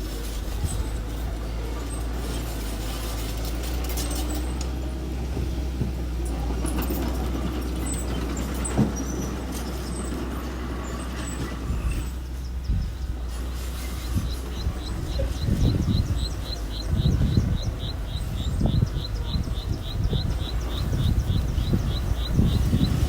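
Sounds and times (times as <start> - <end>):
earthmoving machine engine droning: 0.0 - 23.0.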